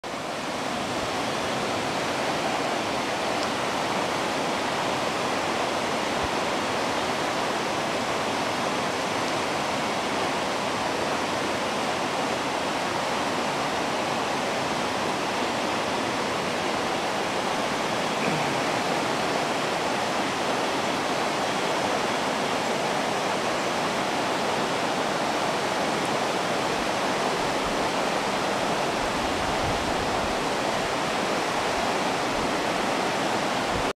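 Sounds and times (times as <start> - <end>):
river water rushing over rocks: 0.1 - 33.9.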